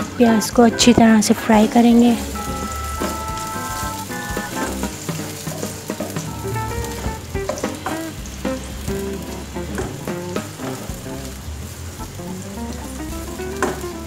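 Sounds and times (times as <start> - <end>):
stepping-note tune: 0.0 - 5.5, 6.1 - 14.0
onions sizzling in oil: 0.1 - 14.0.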